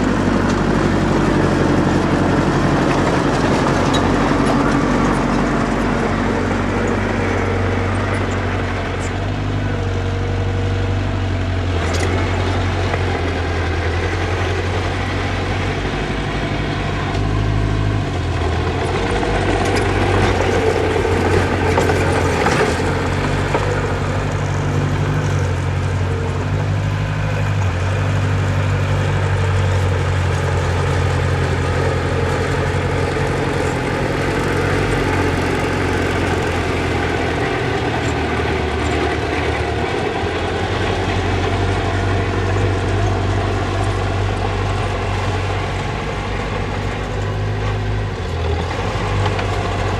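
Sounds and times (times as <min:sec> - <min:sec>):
diesel engine of earth mover: 0:00.0 - 0:49.9.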